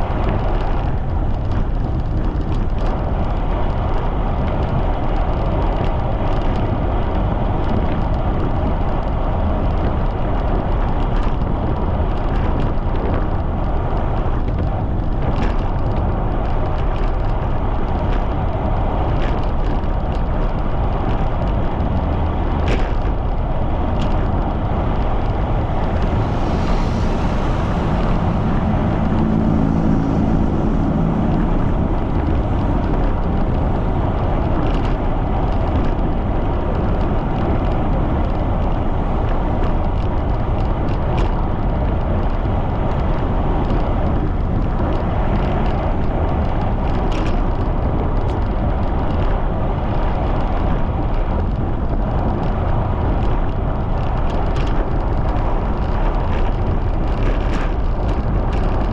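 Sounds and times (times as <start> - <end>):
low engine hum: 0.0 - 58.9
wind buffeting microphone: 0.0 - 58.9.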